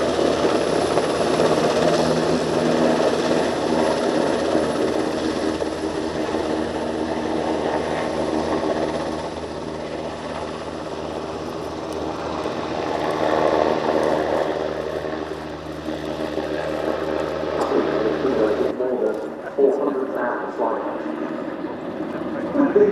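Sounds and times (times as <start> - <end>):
helicopter rotor and engine roar: 0.0 - 22.9.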